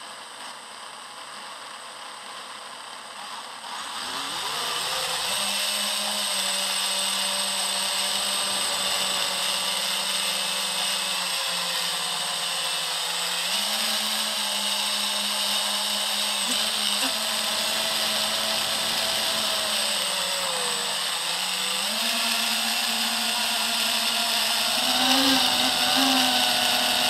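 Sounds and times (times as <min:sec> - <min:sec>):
drone motors whining: 0:03.6 - 0:27.0.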